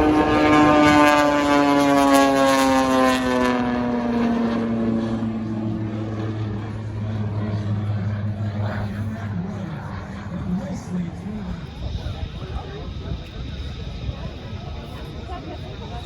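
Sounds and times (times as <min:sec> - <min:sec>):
propeller airplane flying past: 0:00.0 - 0:16.0.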